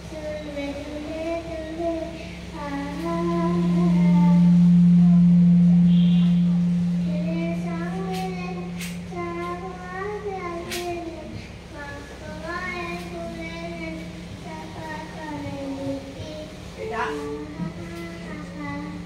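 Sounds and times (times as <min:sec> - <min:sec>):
girl singing into microphone: 0:00.0 - 0:19.0
steady low hum: 0:00.0 - 0:19.0.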